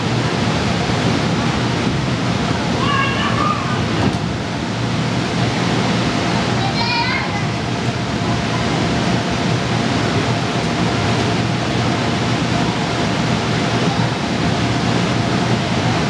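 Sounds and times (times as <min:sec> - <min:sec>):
rushing din of play hall: 0:00.0 - 0:16.0.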